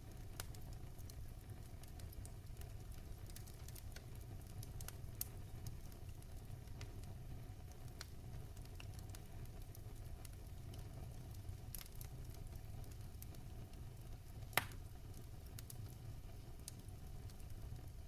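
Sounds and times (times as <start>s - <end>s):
fire crackling in fireplace: 0.0s - 18.0s.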